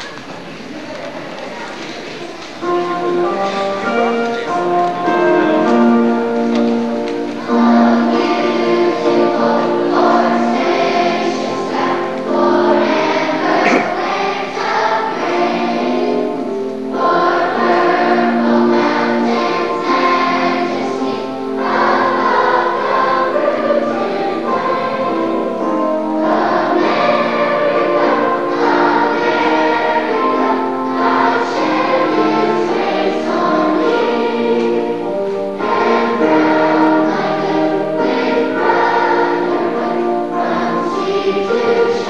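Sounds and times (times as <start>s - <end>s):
children's choir singing: 0.0s - 42.0s.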